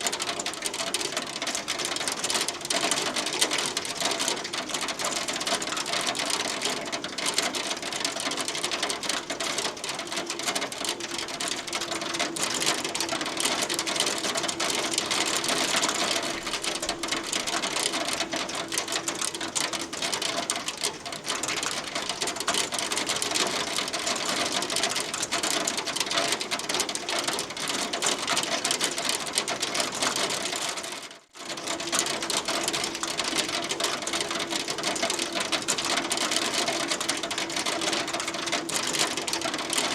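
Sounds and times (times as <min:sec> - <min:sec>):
hail pelting a hard surface: 0:00.0 - 0:39.9.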